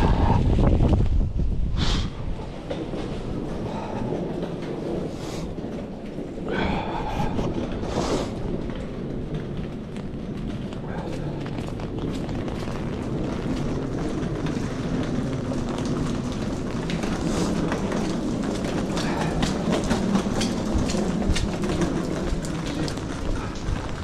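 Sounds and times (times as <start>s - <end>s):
close raindrops ticking: 0.0s - 24.0s
heavy rain falling: 0.0s - 24.0s
low rumble: 0.0s - 24.0s.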